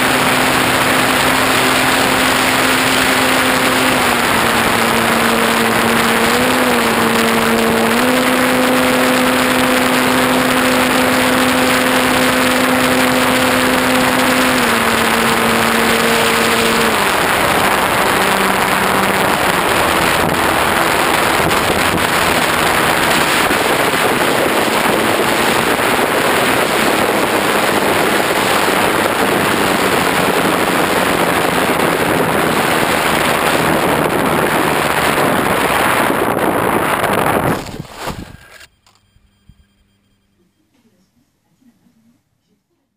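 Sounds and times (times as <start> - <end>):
wind rush on microphone: 0.0 - 38.6
electric motor and propeller whine: 0.0 - 39.7.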